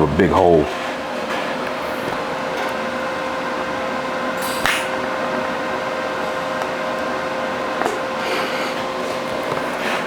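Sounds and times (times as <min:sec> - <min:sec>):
electric fan hum: 0:00.0 - 0:10.0.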